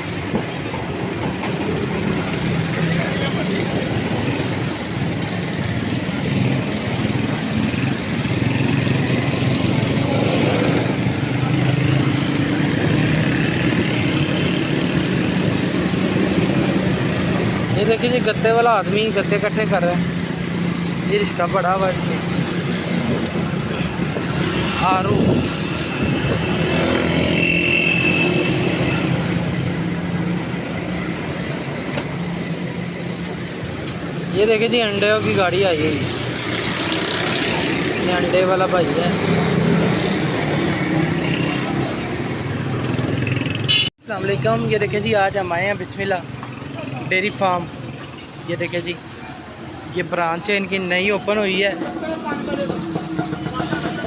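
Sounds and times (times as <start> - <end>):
road and traffic noise: 0.0 - 54.0.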